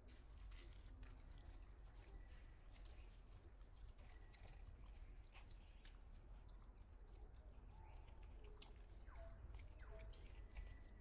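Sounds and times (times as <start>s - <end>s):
monkeys chewing: 0.1s - 11.0s.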